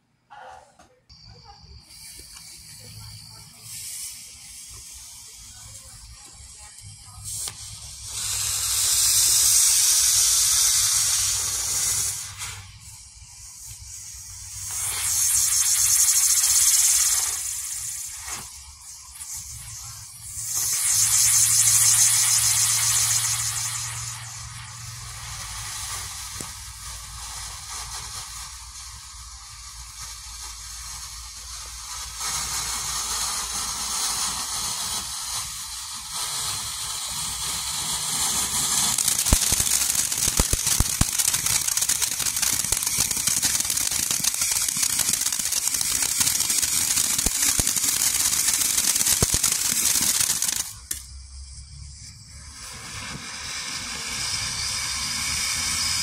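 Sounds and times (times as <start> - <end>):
firework fountain hissing: 1.1 - 56.0
crackling pops: 1.9 - 28.6, 29.8 - 51.2.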